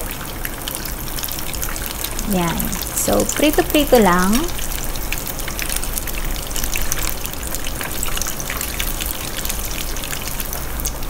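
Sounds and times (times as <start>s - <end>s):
food sizzling in hot oil: 0.5s - 11.0s.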